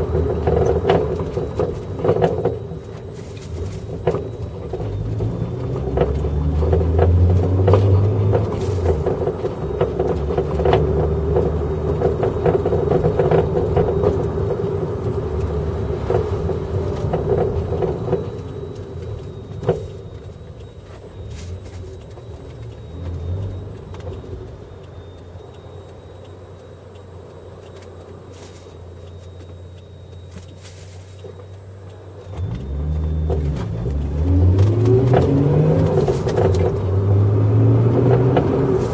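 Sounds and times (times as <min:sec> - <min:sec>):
car engine: 0:00.0 - 0:38.9
road noise: 0:00.0 - 0:38.9
suspension knocking and clicking: 0:00.0 - 0:38.9.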